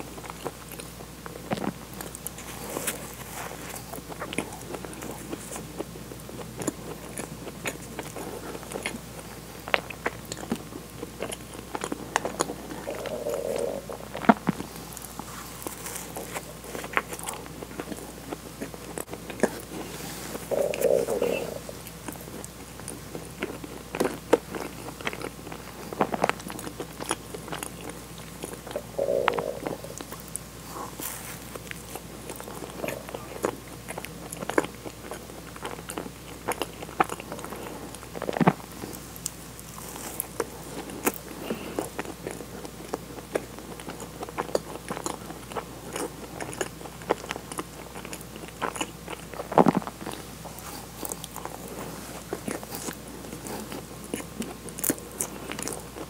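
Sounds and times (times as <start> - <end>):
soft chewing with mouth clicks: 0.0 - 56.0.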